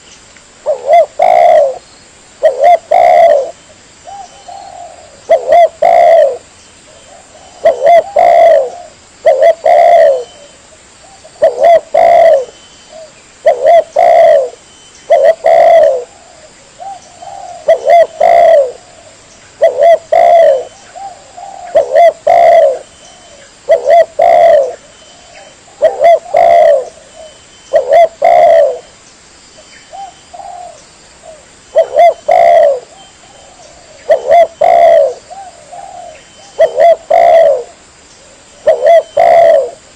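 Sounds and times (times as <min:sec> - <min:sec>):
dove cooing: 0:00.6 - 0:01.8, 0:02.4 - 0:28.9, 0:29.9 - 0:39.9.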